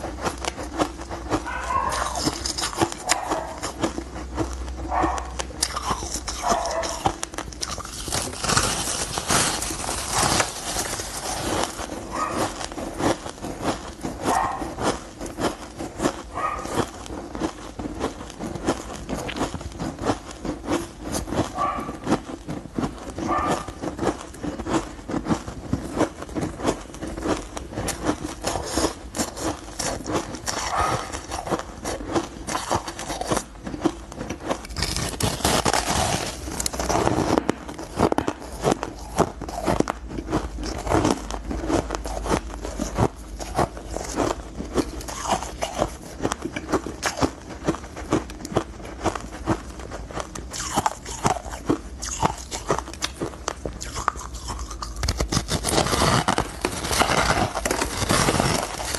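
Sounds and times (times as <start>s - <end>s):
ice crunching and crackling: 0.0s - 58.9s.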